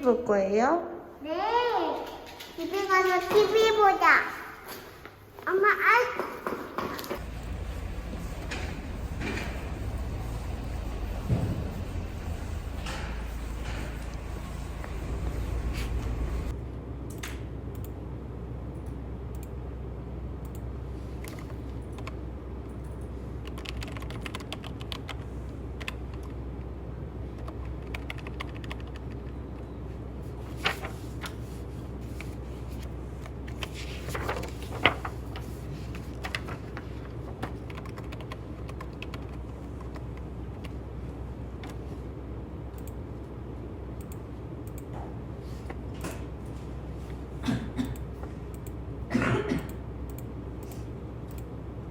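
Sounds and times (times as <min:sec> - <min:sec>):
steady low hum: 0:07.2 - 0:51.9.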